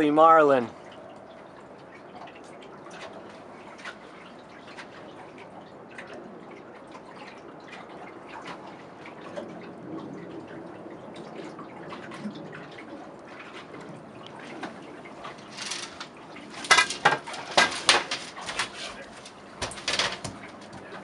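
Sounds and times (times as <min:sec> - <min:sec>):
small water splashes: 0:00.0 - 0:21.0
water sloshing around boat: 0:00.0 - 0:21.0.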